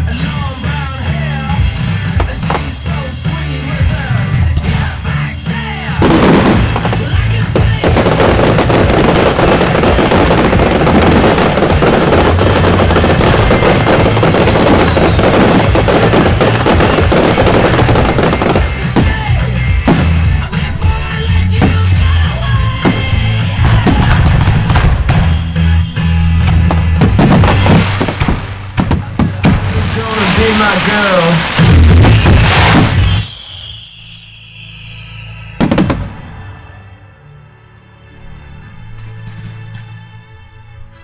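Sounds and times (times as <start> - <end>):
loud rock music: 0.0 - 41.0
fireworks crackling bangs: 0.3 - 37.0.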